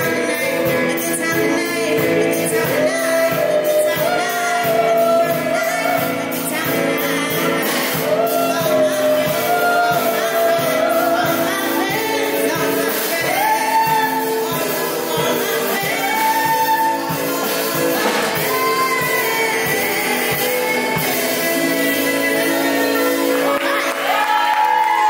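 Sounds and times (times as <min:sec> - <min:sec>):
backing music with steady beat: 0:00.0 - 0:25.0
woman singing into a microphone: 0:00.0 - 0:25.0.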